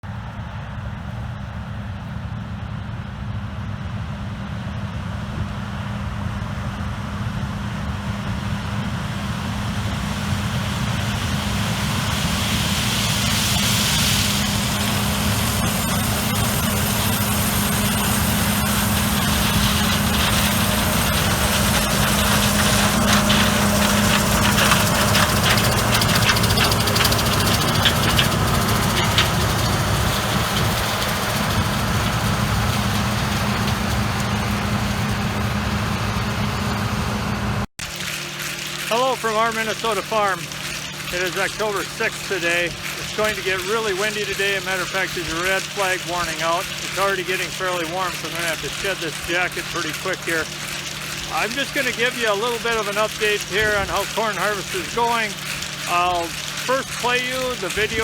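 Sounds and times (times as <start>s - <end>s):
farm machinery engine humming: 0.1s - 58.0s
rattling crackle: 9.9s - 36.7s, 37.8s - 58.0s.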